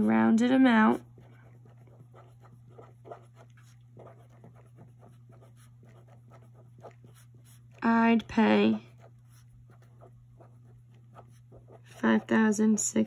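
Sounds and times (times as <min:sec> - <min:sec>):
marker pen scratching on paper: 0:00.0 - 0:12.4
low steady hum: 0:00.0 - 0:13.0.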